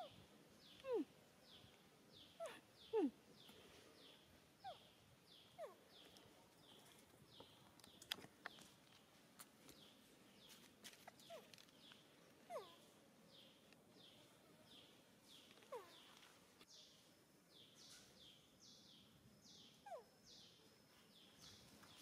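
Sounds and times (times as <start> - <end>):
faint high chirping: 0.0 - 22.0.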